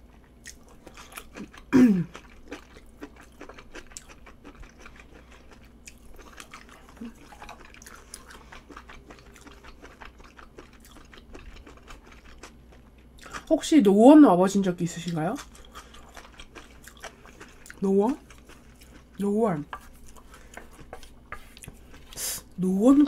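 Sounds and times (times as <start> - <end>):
person chewing food: 0.0 - 13.5, 15.0 - 22.2.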